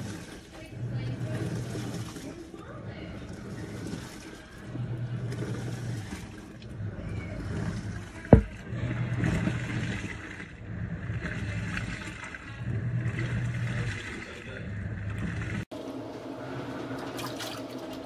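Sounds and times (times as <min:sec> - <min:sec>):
water sloshing: 0:00.0 - 0:15.8, 0:16.6 - 0:18.0
washing machine motor humming: 0:00.0 - 0:18.0.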